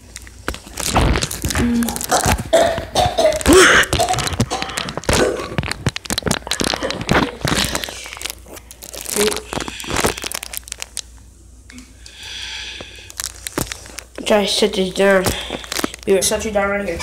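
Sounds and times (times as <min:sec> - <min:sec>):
crinkling and rustling: 0:00.0 - 0:11.3, 0:12.7 - 0:17.0.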